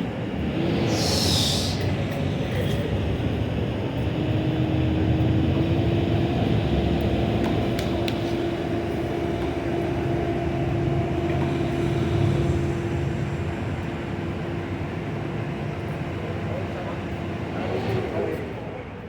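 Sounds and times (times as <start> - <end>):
steady motor drone: 0.0 - 18.6.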